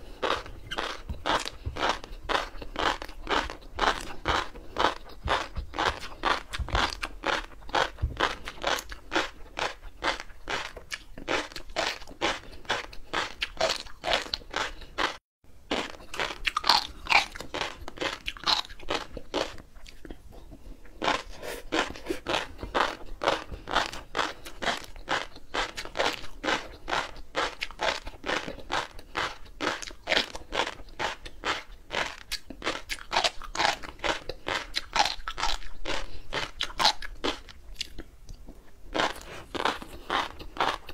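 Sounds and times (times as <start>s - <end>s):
chewing crunchy fish eggs: 0.0s - 38.1s, 38.8s - 40.9s.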